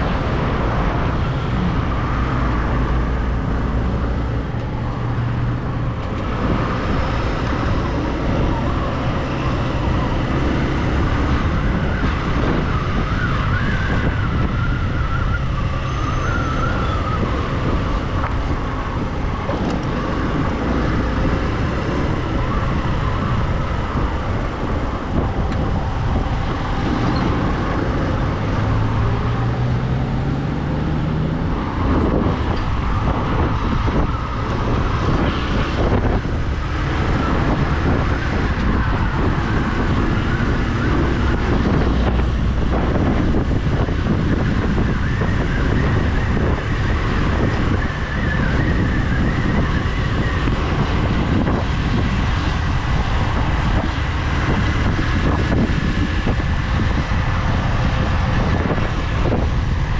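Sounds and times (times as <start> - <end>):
road and wind rumble: 0.0 - 59.9.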